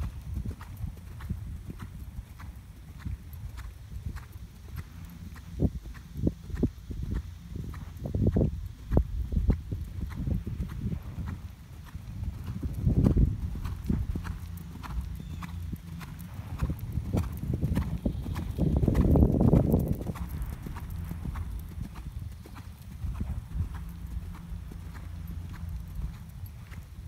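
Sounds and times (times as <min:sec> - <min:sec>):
horse hoofbeats on sand: 0:00.0 - 0:27.0.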